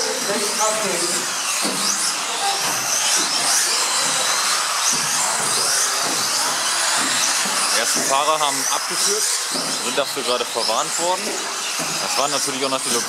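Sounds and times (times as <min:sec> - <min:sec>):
electric rc car motors whining: 0:00.0 - 0:13.0.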